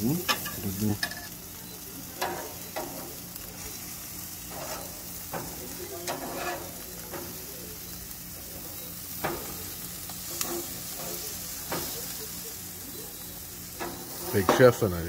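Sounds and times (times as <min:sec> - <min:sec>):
metal spatula scraping grill grate: 0:00.0 - 0:01.4, 0:02.0 - 0:15.0
meat sizzling on a gas grill: 0:00.0 - 0:15.0.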